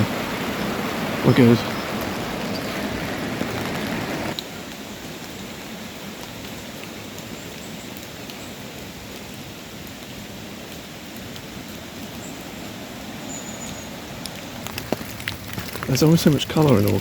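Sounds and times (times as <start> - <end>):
rain pouring: 0.0 - 17.0.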